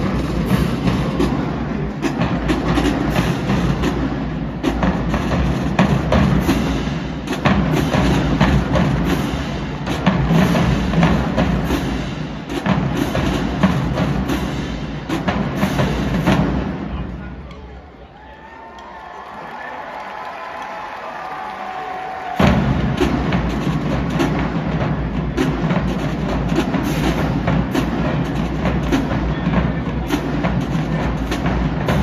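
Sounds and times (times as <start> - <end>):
bass drums: 0.0 - 16.9, 22.4 - 32.0.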